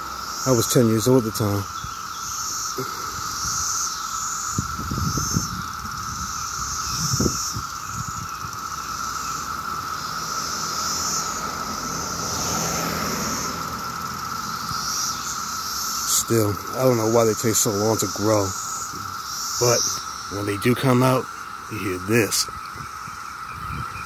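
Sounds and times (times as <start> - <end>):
cicadas droning: 0.0 - 24.0.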